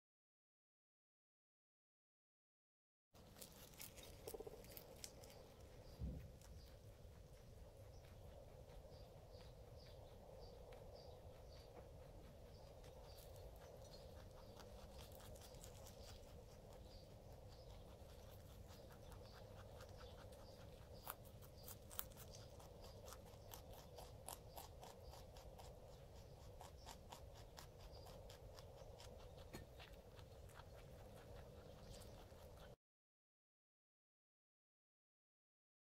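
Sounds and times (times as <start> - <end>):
rabbit crunching leaves: 3.2 - 32.8.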